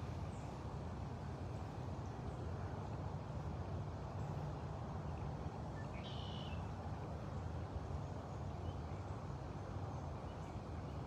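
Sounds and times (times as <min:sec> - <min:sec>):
low outdoor background rumble: 0:00.0 - 0:11.0.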